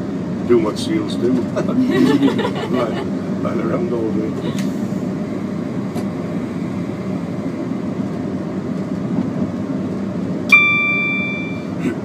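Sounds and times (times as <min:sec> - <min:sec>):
diesel train running rumble: 0:00.0 - 0:12.0.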